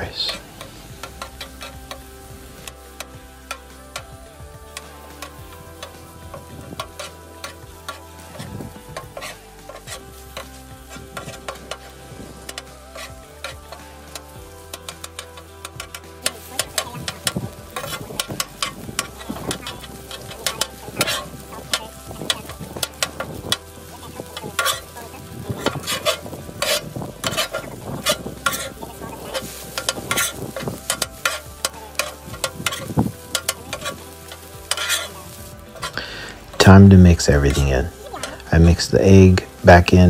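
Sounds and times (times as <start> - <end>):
food sizzling: 0.0 - 40.0
metal spatula clacking on griddle: 0.2 - 4.1, 4.7 - 36.8.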